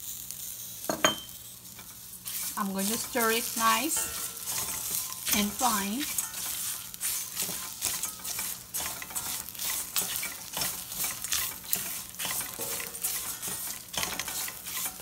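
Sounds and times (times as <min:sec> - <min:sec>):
steady sizzle: 0:00.0 - 0:15.0
spatula scraping metal pan: 0:01.7 - 0:15.0.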